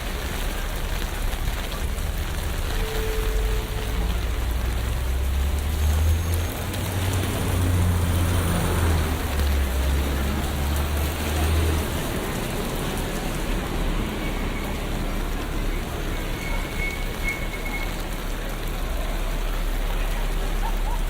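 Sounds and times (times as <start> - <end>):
rain falling on street: 0.0 - 21.0
vehicle engine rumble: 0.0 - 21.0.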